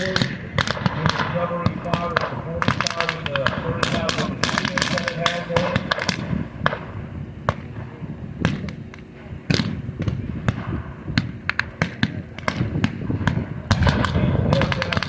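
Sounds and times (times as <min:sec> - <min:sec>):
gunshots: 0:00.0 - 0:15.0.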